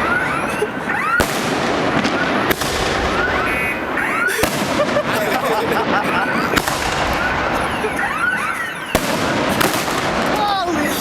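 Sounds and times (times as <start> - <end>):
car alarms wailing and beeping: 0.0 - 11.0
fireworks crackling: 0.0 - 11.0
loud fireworks bangs: 0.0 - 11.0.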